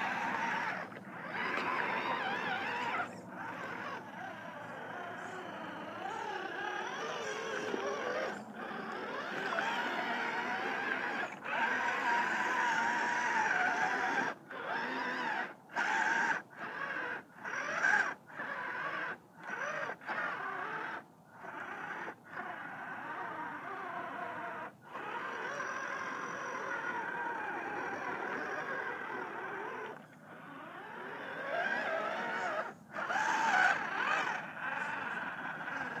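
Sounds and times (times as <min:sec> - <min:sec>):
tyres churning through mud: 0:00.0 - 0:23.0, 0:24.9 - 0:36.0
toy car electric motor whine: 0:00.0 - 0:36.0.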